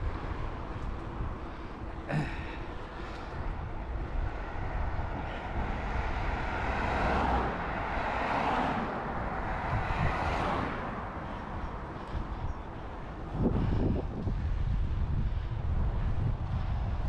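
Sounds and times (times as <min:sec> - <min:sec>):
wind rumble on microphone: 0:00.0 - 0:17.0
vehicle passing: 0:02.4 - 0:17.0.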